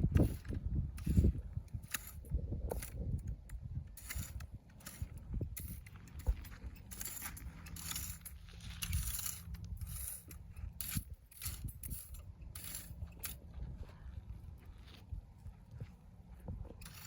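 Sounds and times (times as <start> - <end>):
hand tool scraping dry weeds: 0.0 - 13.6, 16.7 - 17.0.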